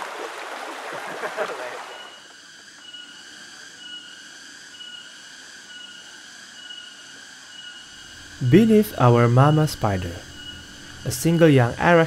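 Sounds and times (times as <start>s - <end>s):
high-pitched insect drone: 1.3s - 12.0s.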